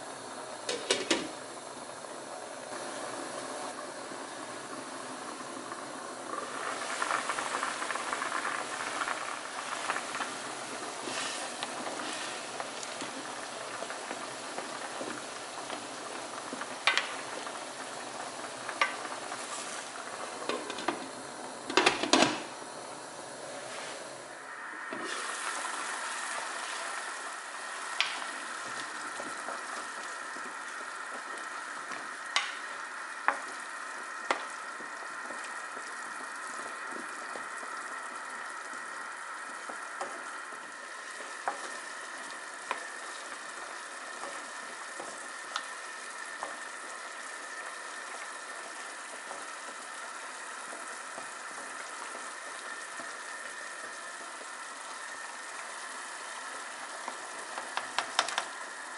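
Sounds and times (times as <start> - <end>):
sauce bubbling and sizzling: 0.0 - 58.9.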